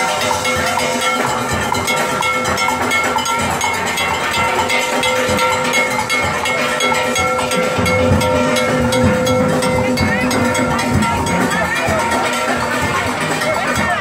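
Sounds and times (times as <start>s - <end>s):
metal percussion clanging: 0.0s - 14.0s
steel pans rolled notes: 0.0s - 14.0s.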